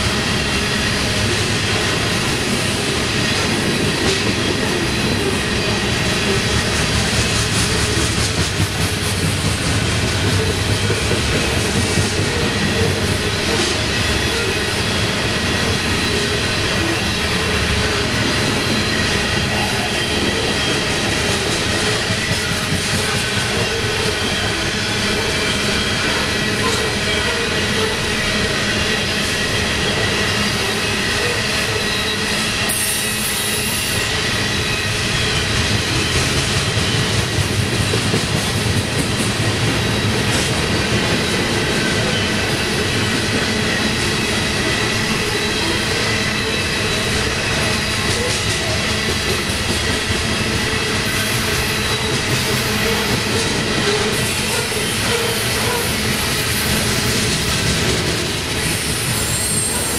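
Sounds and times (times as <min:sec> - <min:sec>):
clickety-clack over rail joints: 0:00.0 - 0:31.8, 0:34.8 - 0:59.9
train wheels rumbling on rails: 0:00.0 - 0:59.9.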